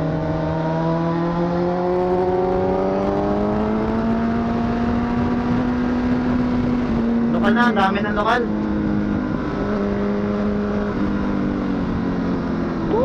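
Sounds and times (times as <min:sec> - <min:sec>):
motorcycle engine revving: 0:00.0 - 0:13.0
steady rushing noise: 0:02.0 - 0:13.0.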